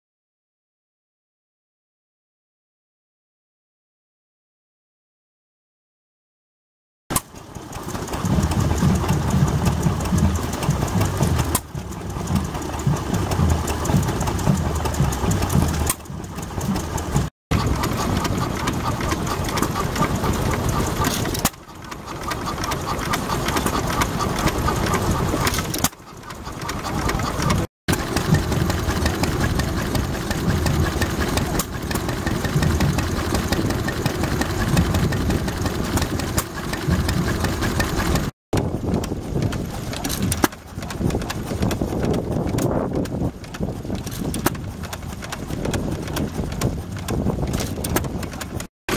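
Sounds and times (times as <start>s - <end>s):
stationary engines running: 7.1s - 48.9s.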